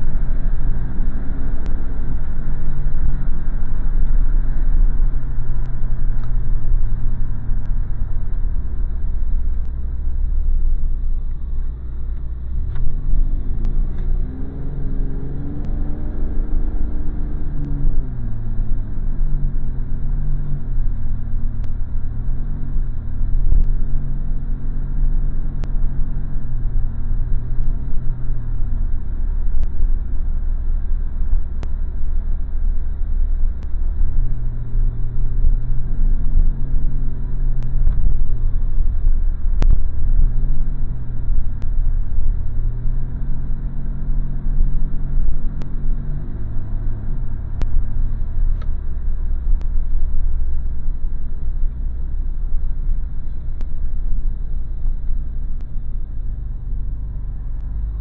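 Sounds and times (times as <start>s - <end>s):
car engine rumbling: 0.0s - 58.0s
road noise: 0.0s - 58.0s.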